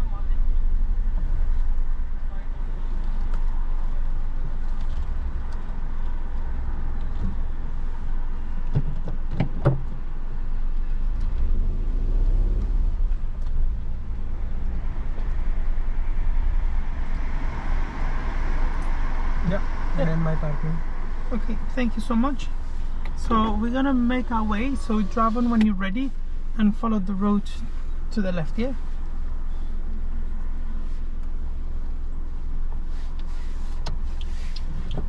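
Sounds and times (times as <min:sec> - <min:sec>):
car engine rumble: 0:00.0 - 0:35.0
road noise inside car: 0:00.0 - 0:35.0.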